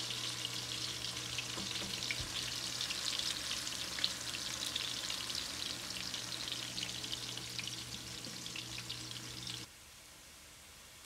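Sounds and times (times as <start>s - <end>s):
onions sizzling in oil: 0.0s - 9.7s.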